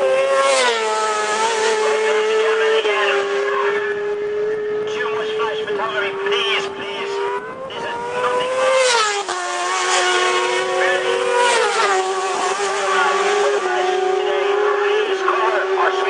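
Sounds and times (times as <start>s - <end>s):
racing motorcycle engine revving: 0.0s - 16.0s.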